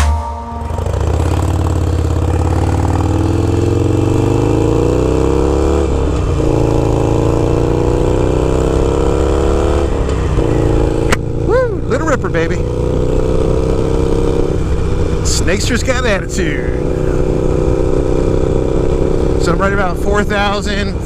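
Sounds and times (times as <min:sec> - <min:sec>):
motorcycle engine accelerating: 0:00.5 - 0:21.0.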